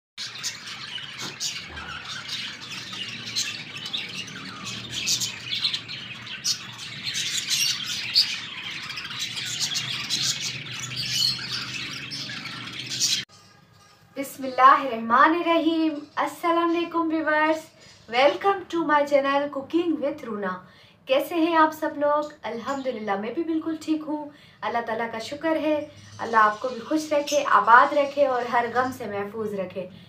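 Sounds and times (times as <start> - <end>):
birds chirping and squawking: 0.2 - 30.0.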